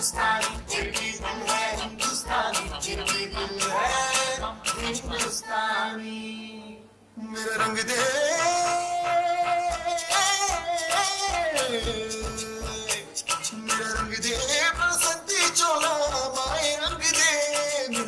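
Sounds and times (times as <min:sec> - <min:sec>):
person singing over a beat: 0:00.0 - 0:05.8, 0:07.4 - 0:18.0.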